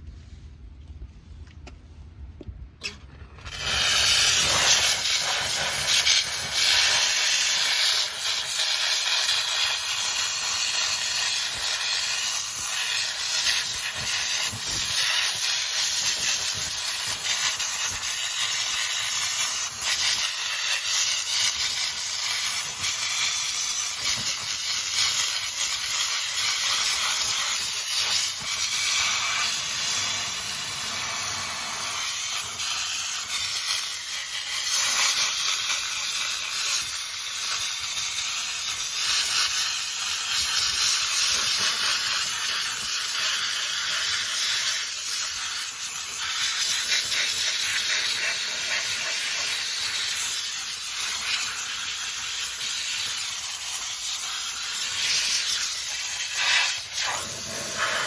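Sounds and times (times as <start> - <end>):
steam jet hissing: 2.8 - 58.0.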